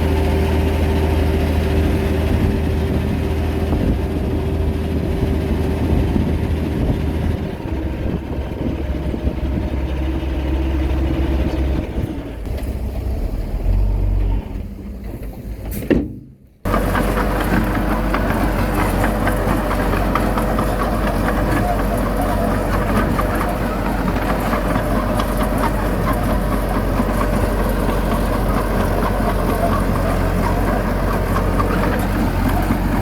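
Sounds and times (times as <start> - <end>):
heavy diesel engine running: 0.0 - 15.7, 16.7 - 33.0.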